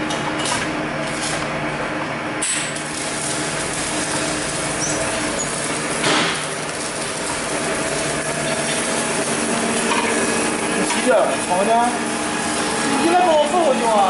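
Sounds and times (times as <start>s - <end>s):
factory machinery hum: 0.0s - 14.0s.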